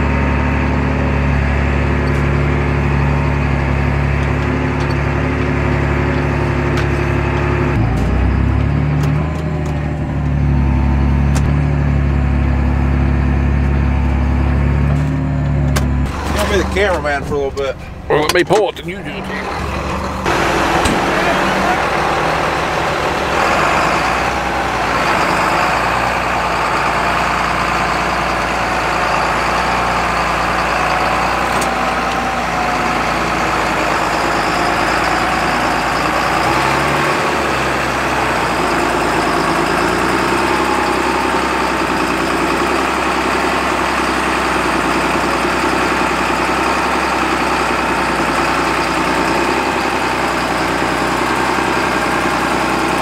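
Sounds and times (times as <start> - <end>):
tractor diesel engines running: 0.0 - 53.0.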